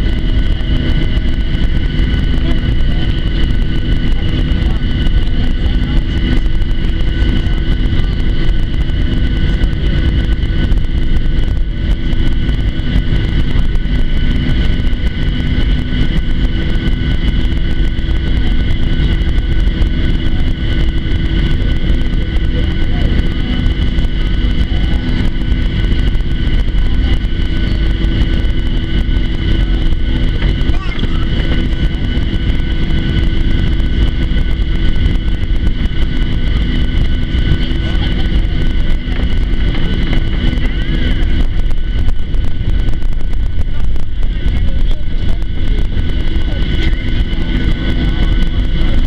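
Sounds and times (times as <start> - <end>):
jet engines whining at idle: 0.0 - 49.0.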